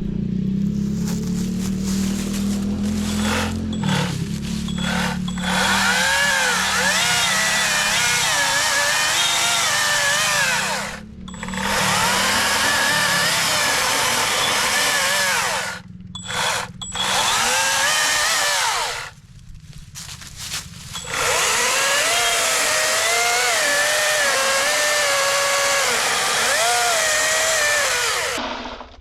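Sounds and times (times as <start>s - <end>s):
chainsaw cutting tree trunk: 0.8s - 19.2s, 20.0s - 28.8s.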